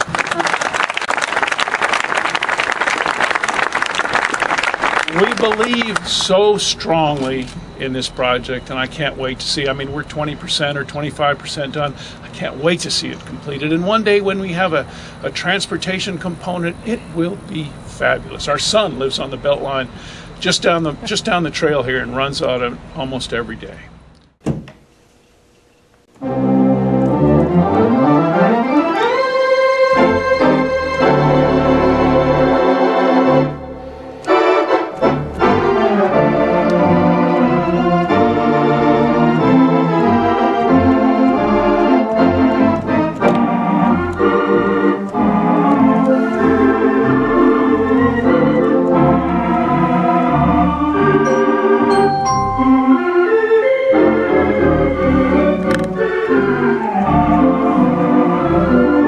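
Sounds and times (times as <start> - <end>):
theatre organ chords: 1.7 - 24.1, 26.1 - 59.0.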